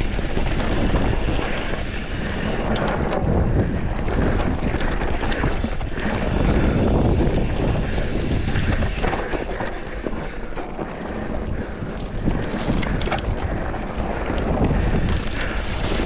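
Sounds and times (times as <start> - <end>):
tyres rumbling on dirt trail: 0.0 - 16.0
wind buffeting microphone: 0.0 - 16.0.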